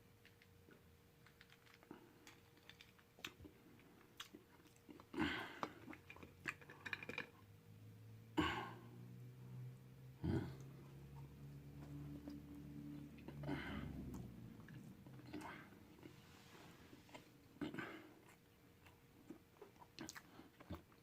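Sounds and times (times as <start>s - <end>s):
person chewing food: 0.2s - 7.5s, 10.4s - 21.0s.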